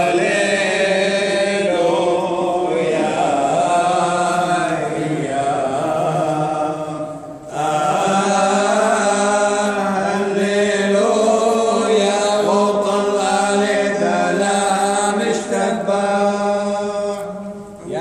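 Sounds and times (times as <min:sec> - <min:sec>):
voices chanting a hymn: 0:00.0 - 0:18.0.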